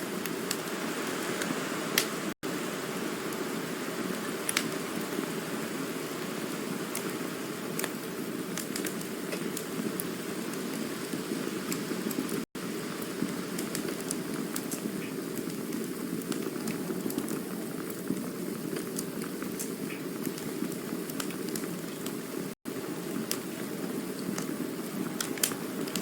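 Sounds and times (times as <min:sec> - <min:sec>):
campfire hissing: 0:00.0 - 0:26.0
fire crackling and popping: 0:00.0 - 0:26.0.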